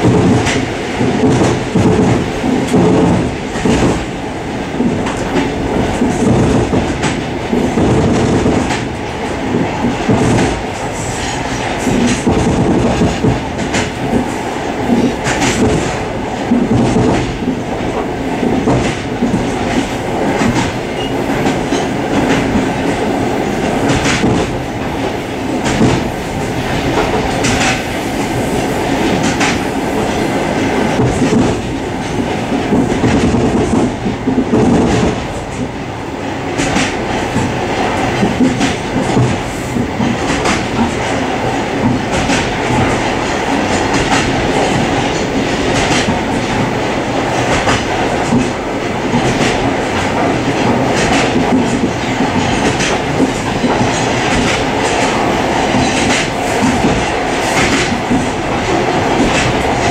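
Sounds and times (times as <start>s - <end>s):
train running gear rumble: 0.0s - 59.9s.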